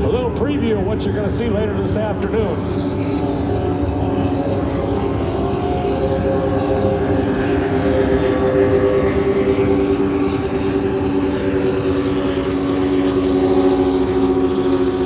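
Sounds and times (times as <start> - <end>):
powerboat engines droning: 0.0 - 15.0.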